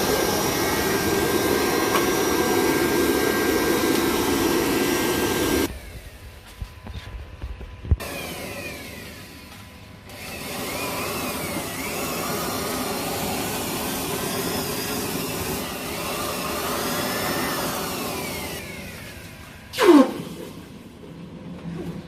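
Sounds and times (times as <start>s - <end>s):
electric grinder on steel: 0.0s - 6.2s, 8.0s - 20.2s.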